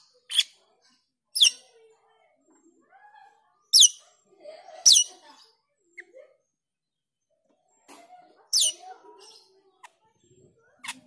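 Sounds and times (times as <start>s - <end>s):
soft squeaky bird chatter: 0.0s - 11.0s.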